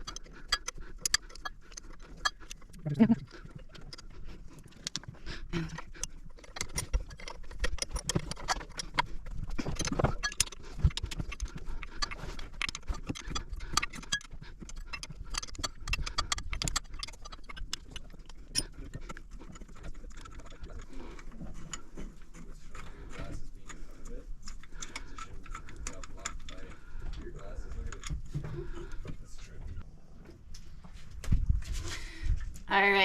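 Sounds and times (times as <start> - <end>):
hand tools clicking and clinking: 0.0 - 29.6.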